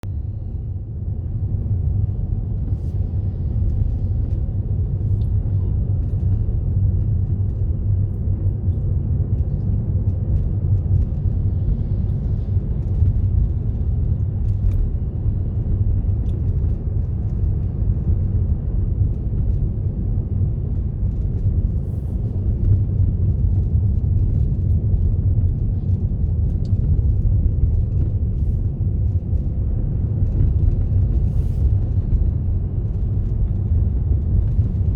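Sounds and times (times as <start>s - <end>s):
car driving rumble from inside: 0.0s - 34.9s.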